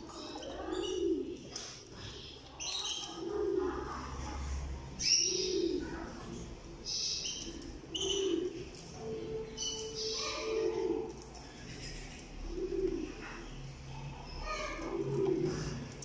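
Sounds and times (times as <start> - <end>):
canaries chirping: 0.0 - 16.0
dove cooing: 0.0 - 16.0.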